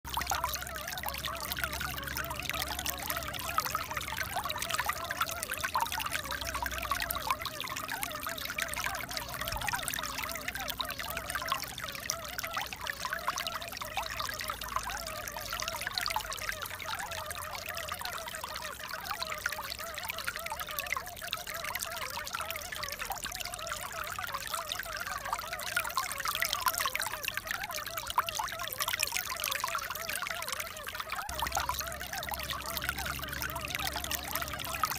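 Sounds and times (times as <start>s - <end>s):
water trickling and pouring: 0.0s - 34.9s.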